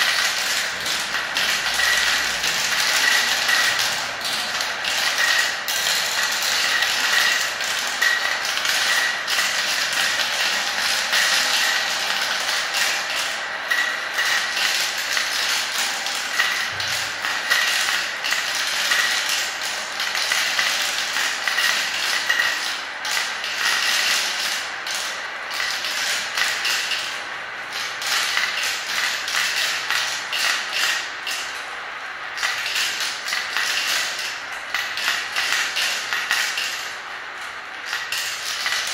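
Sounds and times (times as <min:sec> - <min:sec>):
plastic balls clattering in marble run: 0:00.0 - 0:31.7, 0:32.3 - 0:37.0, 0:37.8 - 0:38.9.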